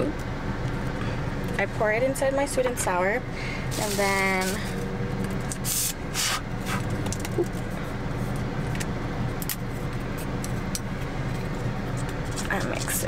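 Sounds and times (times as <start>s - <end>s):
low hum of car: 0.0s - 13.0s.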